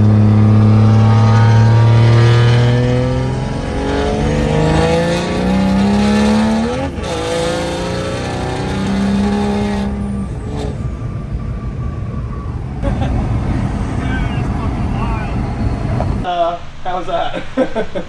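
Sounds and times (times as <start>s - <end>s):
diesel engine accelerating: 0.0s - 16.3s.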